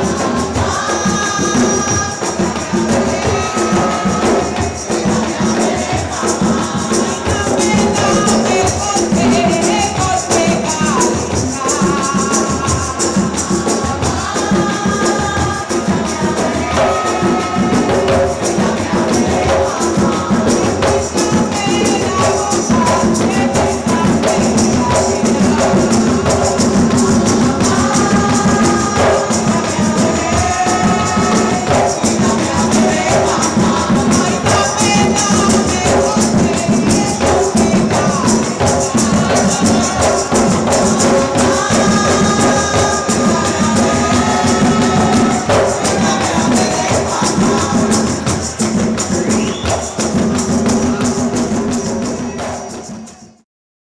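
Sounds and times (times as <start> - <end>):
hand drums: 0.0 - 53.4
shaken rattles: 0.0 - 53.4
voices singing: 0.0 - 53.4.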